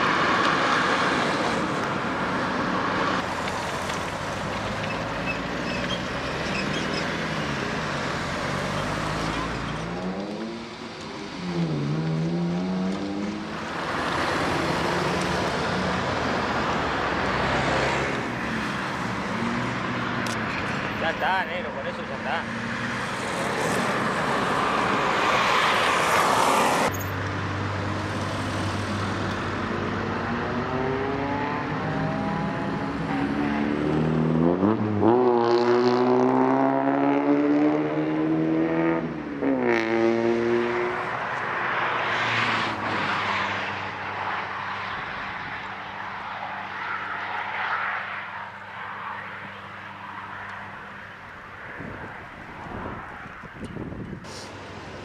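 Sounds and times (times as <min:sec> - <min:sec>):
low road hum: 0:00.0 - 0:55.0
passing vehicle engine: 0:00.0 - 0:55.0.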